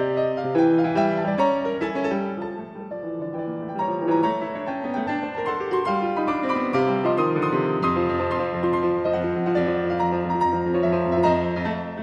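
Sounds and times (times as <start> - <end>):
classical piano music: 0.0 - 12.0.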